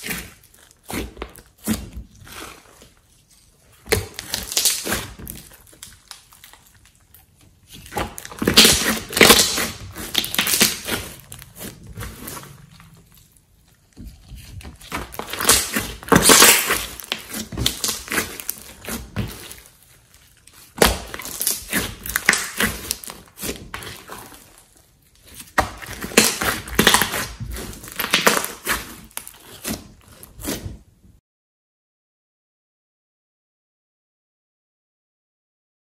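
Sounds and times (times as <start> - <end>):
hands squishing slime: 0.0 - 30.8.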